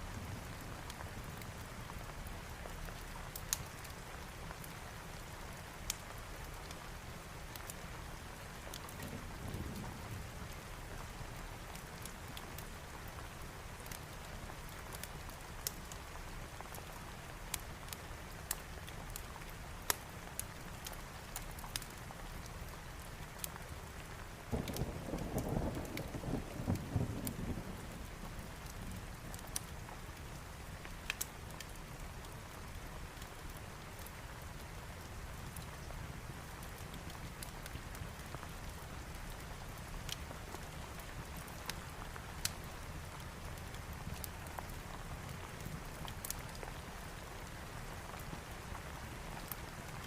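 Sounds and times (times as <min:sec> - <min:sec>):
fireplace crackles: 0:00.0 - 0:50.0
rain hiss: 0:00.0 - 0:50.0.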